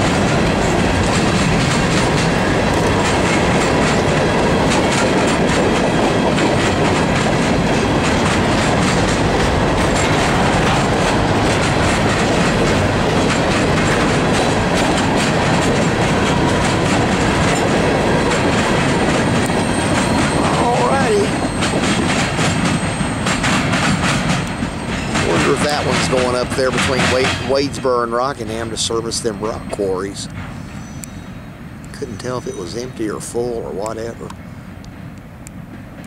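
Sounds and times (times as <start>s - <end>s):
train wheels rumbling on rails: 0.0s - 36.0s
wheels clacking over rail joints: 0.0s - 36.0s.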